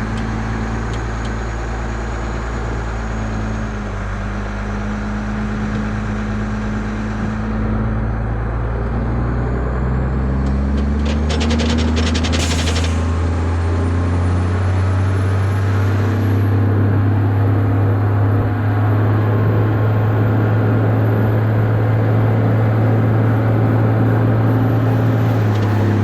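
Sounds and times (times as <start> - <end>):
diesel engine droning: 0.0 - 26.0
road noise: 0.0 - 26.0.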